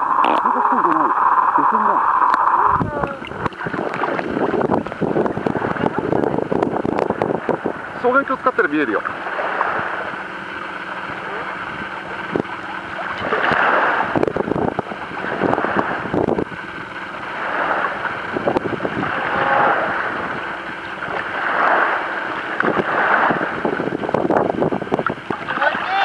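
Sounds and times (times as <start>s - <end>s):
small waves lapping: 0.0s - 26.0s
wind buffeting microphone: 2.5s - 26.0s.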